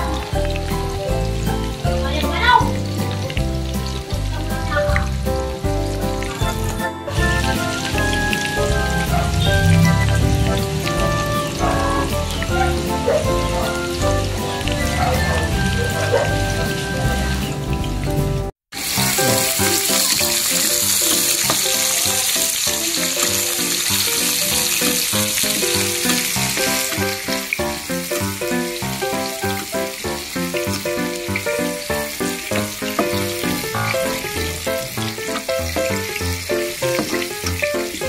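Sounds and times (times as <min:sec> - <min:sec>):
onion sizzling in hot oil: 0:00.0 - 0:38.0
plucked background music: 0:00.0 - 0:38.0.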